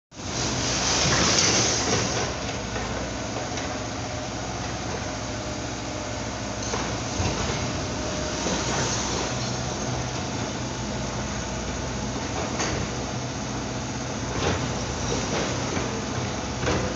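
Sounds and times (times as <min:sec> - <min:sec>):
excavator diesel engine running: 0:00.2 - 0:16.9.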